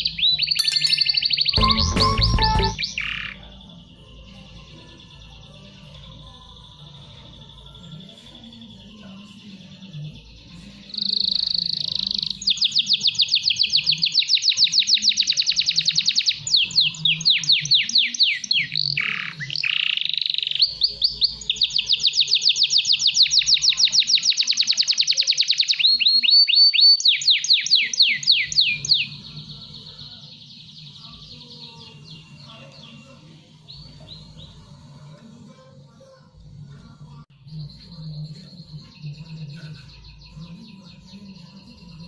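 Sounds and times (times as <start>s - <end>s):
canary singing rapid trills: 0.0s - 34.8s.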